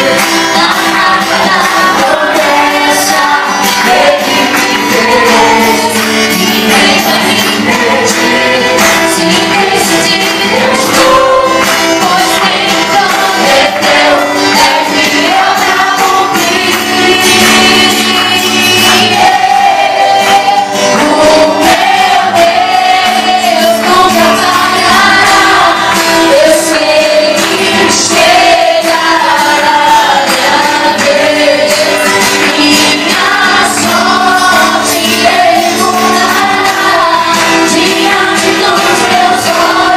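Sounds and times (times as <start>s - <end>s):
gospel song with band: 0.0s - 39.9s.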